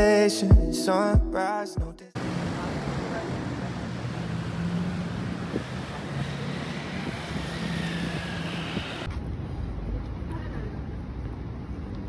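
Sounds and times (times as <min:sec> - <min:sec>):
road noise: 0:02.2 - 0:12.0
vehicle engines running: 0:02.2 - 0:12.0.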